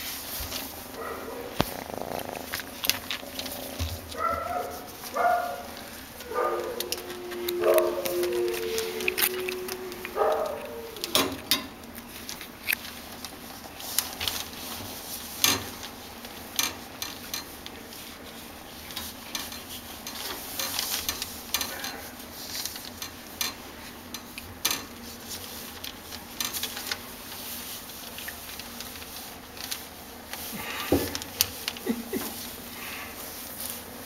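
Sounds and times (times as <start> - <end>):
newspaper rustling and crinkling: 0.0 - 24.0, 24.9 - 34.0.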